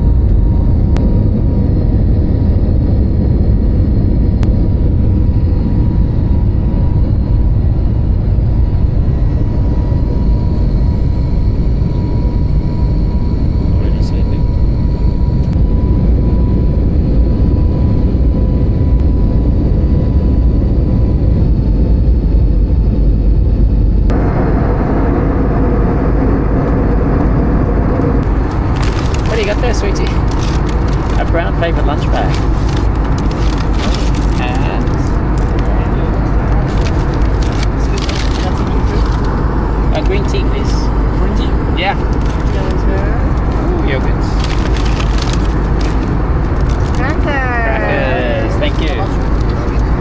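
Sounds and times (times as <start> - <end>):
aircraft cabin rumble: 0.0 - 50.0.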